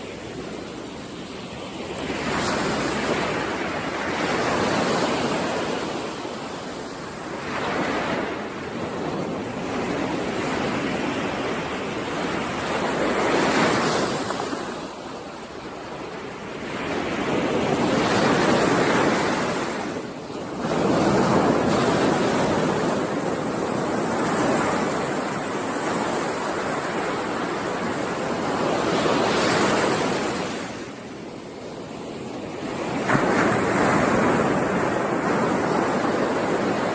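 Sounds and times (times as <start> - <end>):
ocean waves breaking on shore: 0.0 - 36.9.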